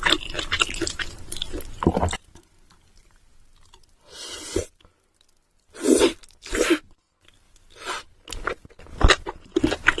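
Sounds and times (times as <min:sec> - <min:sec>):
crunchy food being chewed: 0:00.0 - 0:03.9, 0:04.6 - 0:10.0.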